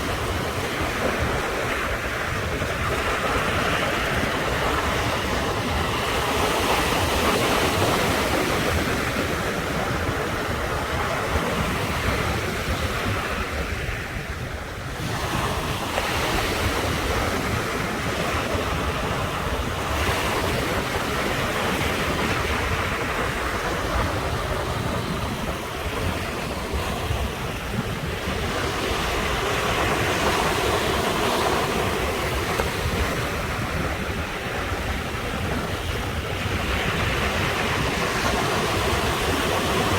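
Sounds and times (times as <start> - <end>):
ocean surf breaking: 0.0 - 39.9
wind buffeting microphone: 0.0 - 39.9.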